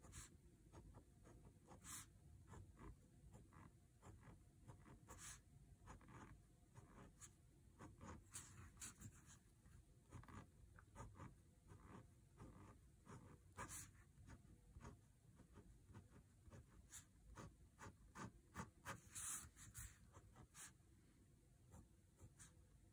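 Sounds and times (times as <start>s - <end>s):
pen scratching on paper: 0.0s - 20.8s, 21.6s - 22.9s.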